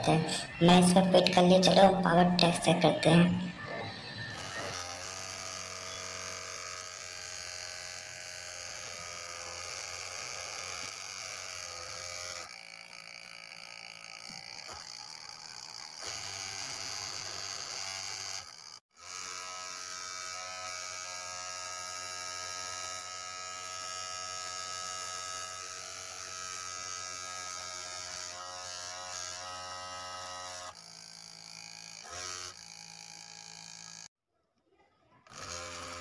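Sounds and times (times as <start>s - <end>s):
electric motors whining: 2.5s - 34.1s, 35.3s - 36.0s.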